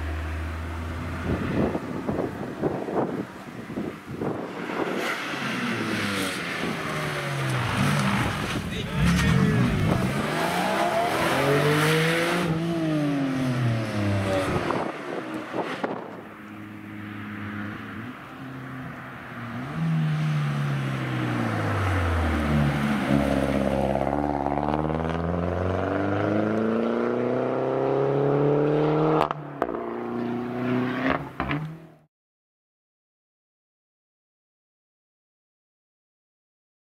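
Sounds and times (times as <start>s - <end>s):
car slowing and accelerating: 0.0s - 32.1s
rally cars revving past: 0.6s - 32.0s.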